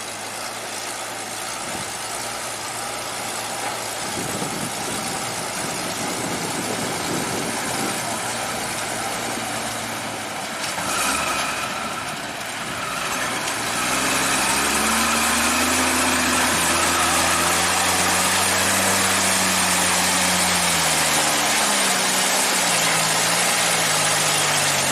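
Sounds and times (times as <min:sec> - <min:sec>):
truck engine revving: 0:01.2 - 0:24.9.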